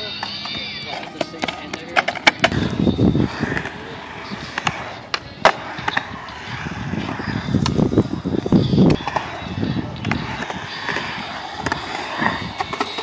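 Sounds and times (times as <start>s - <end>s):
skateboard clacks: 0.0s - 13.0s
skateboard wheels rolling on concrete: 0.0s - 13.0s.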